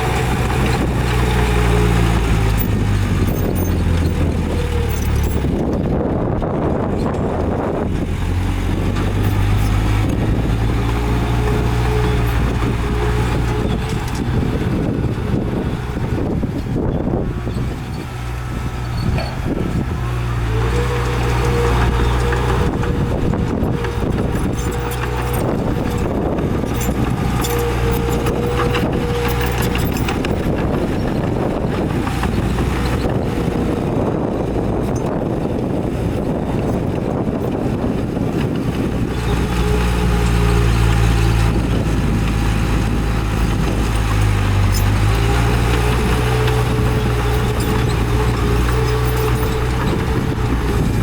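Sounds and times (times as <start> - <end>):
diesel earthmoving machinery: 0.0 - 51.0
soil and rock rattling: 0.0 - 51.0.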